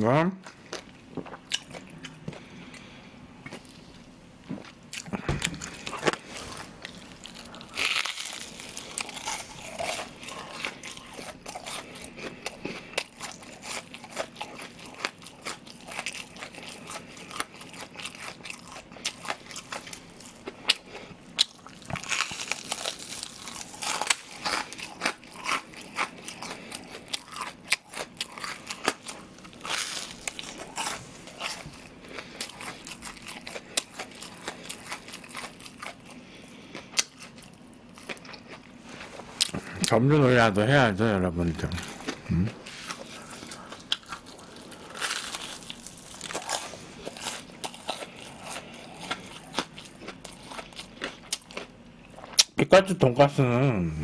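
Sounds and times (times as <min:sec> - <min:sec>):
person chewing crunchy food: 0:00.4 - 0:40.4, 0:41.4 - 0:52.5.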